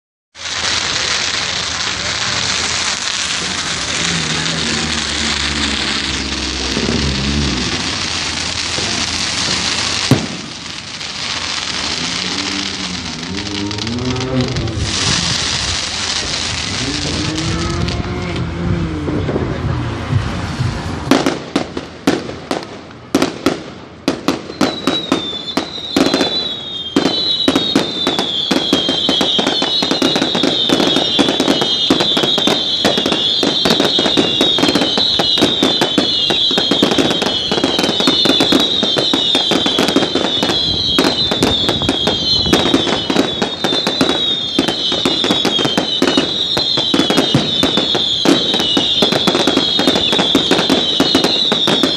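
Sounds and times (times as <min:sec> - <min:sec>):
firework bangs and crackle: 0:00.3 - 0:51.9
falling firework whistle: 0:00.4 - 0:18.4, 0:21.1 - 0:51.9.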